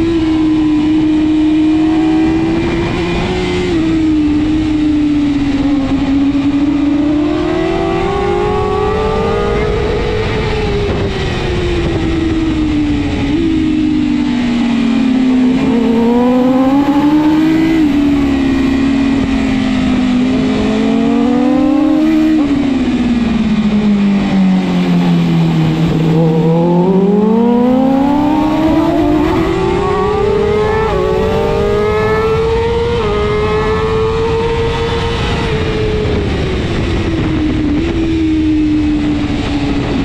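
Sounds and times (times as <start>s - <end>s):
motorcycle engine at racing speed: 0.0s - 40.0s
wind rush: 2.0s - 40.0s.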